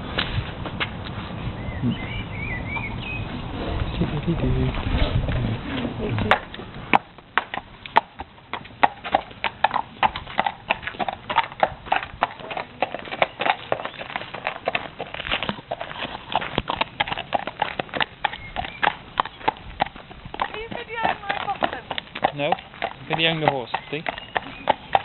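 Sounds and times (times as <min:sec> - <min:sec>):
horse hooves clip-clopping: 0:02.8 - 0:25.0.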